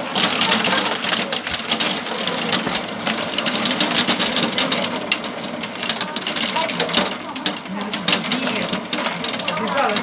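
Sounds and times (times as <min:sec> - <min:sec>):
heavy rain on a hard surface: 0:00.0 - 0:10.0.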